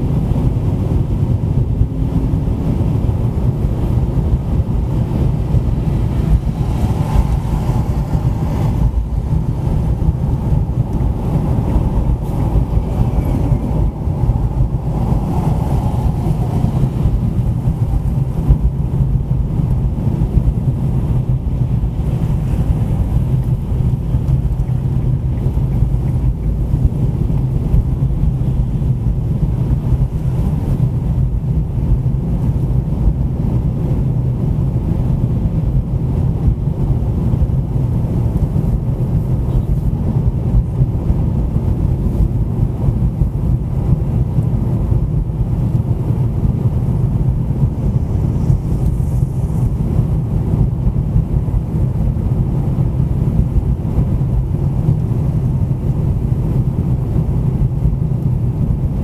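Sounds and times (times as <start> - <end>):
car tyre and engine rumble: 0.0 - 59.0.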